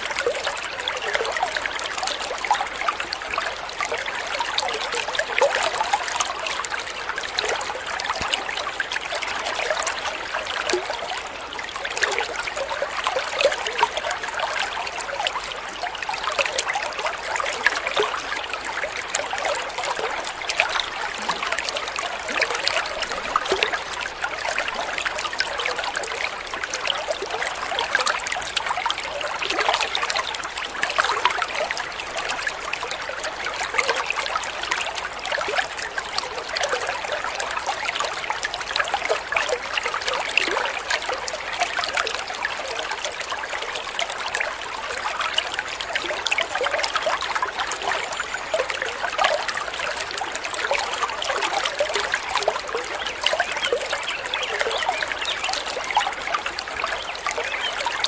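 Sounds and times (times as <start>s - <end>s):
stream babbling over stones: 0.0s - 58.0s.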